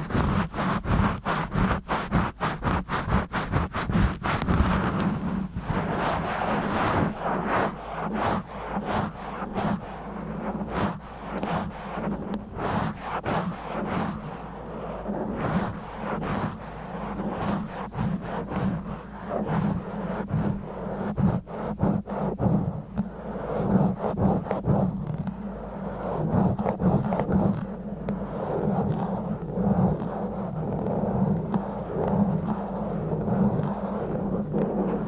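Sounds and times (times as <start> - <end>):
fingers scratching a microphone: 0.0 - 35.0.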